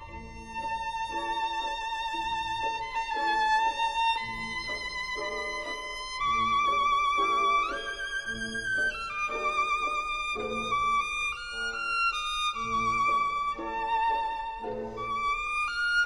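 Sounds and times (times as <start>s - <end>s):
violin melody with vibrato: 0.0s - 16.0s.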